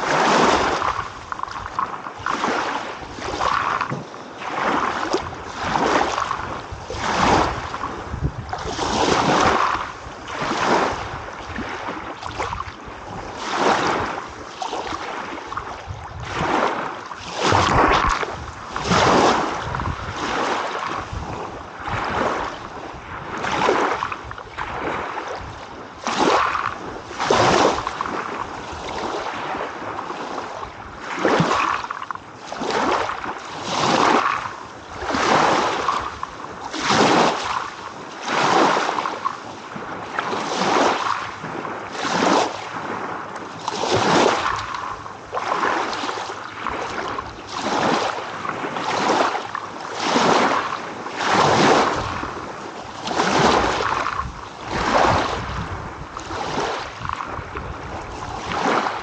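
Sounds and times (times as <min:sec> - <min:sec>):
small waves breaking: 0:00.0 - 0:59.0.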